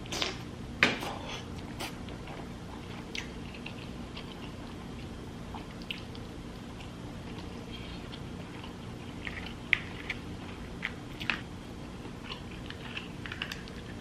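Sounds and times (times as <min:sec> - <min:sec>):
chewing with wet mouth clicks: 0:01.6 - 0:14.0.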